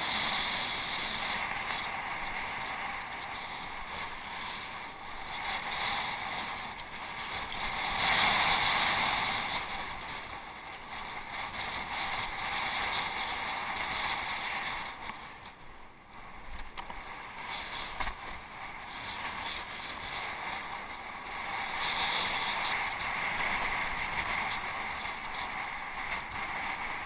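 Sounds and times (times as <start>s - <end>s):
bicycle rattling hiss off-road: 0.0s - 27.0s.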